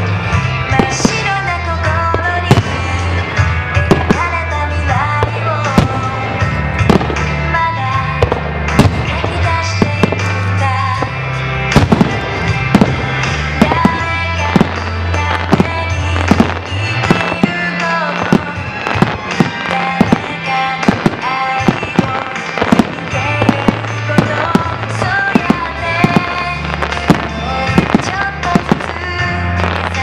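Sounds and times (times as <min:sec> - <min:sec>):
fireworks bursting with bangs: 0:00.0 - 0:30.0
song with singing and bass: 0:00.0 - 0:30.0.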